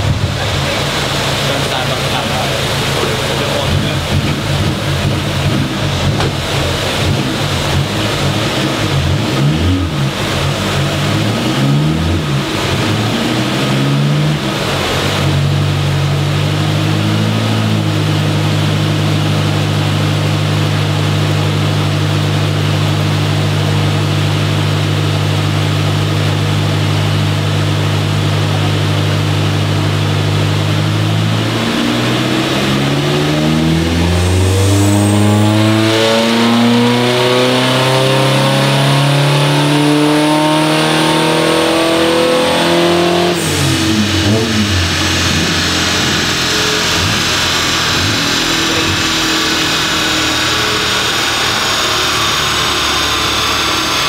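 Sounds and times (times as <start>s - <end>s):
turbocharged car engine revving: 0.0s - 54.0s.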